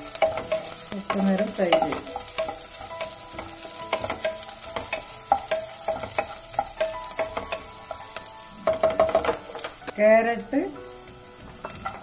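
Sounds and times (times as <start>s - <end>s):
pot ringing: 0.0s - 9.7s
vegetables sizzling in a pot: 0.0s - 12.0s
spatula scraping and knocking pot: 0.1s - 9.9s, 11.4s - 12.0s.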